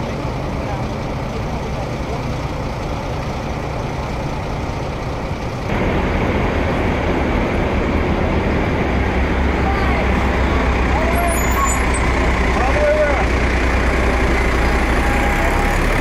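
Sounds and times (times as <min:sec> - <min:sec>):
truck engines humming: 0:00.0 - 0:16.0
trucks driving by rumbling: 0:00.0 - 0:16.0.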